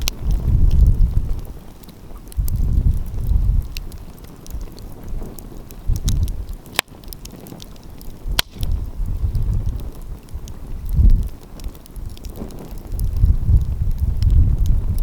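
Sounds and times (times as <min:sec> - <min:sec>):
fire popping loudly: 0:00.0 - 0:15.0
wind rumbling on microphone: 0:00.0 - 0:15.0
wood fire crackling: 0:00.0 - 0:15.0.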